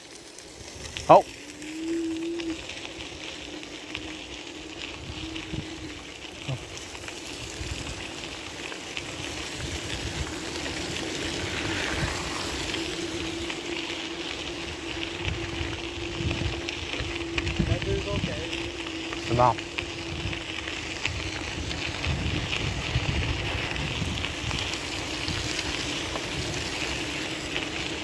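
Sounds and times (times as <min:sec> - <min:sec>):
bicycle tyres rolling on gravel: 0:00.0 - 0:28.0.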